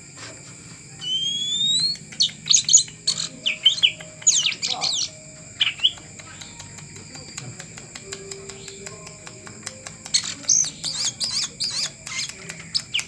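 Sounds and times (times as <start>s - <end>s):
bird singing whistles and chirps: 1.0s - 6.7s, 8.0s - 13.0s.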